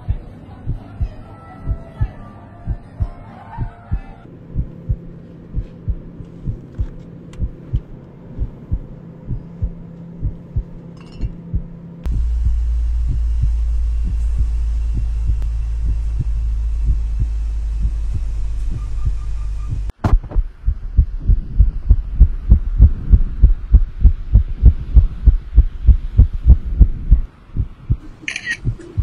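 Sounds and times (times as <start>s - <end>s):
fast pounding heartbeat-like thumping: 0.0s - 10.8s, 11.5s - 29.0s
steady low hum: 0.0s - 29.0s.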